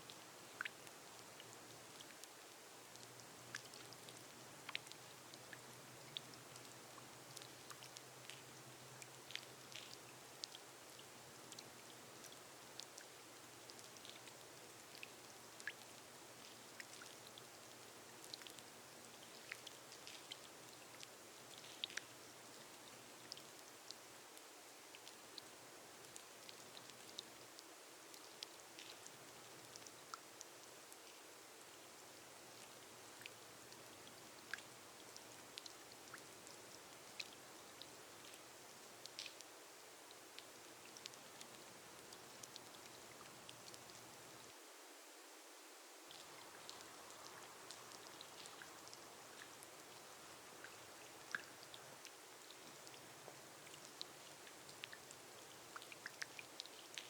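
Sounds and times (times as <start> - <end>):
rain on a glass roof: 0.0 - 57.0.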